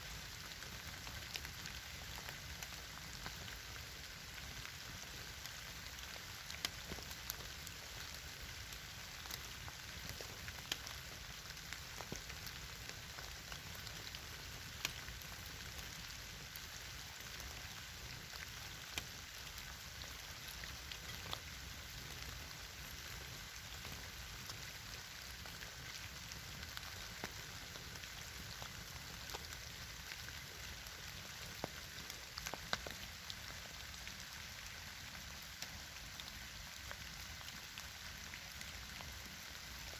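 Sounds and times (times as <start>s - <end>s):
campfire crackling hiss: 0.0s - 39.9s.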